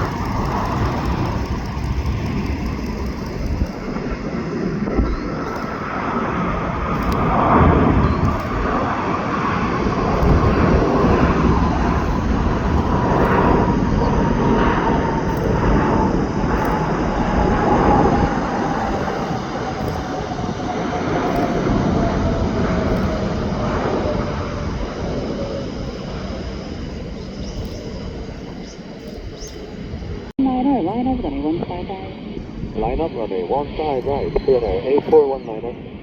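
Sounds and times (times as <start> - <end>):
jet airliner passing by: 0.0 - 36.0.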